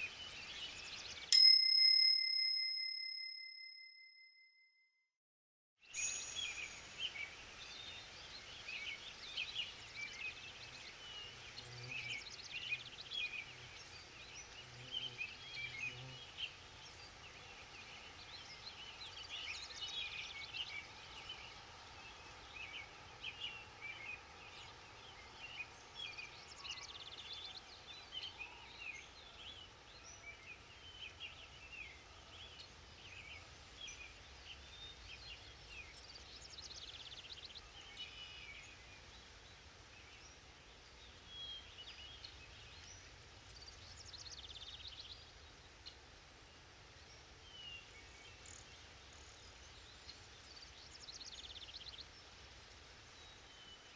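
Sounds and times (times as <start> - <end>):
faint steady hiss: 6.0 - 53.9
small birds chirping and trilling: 6.0 - 53.9.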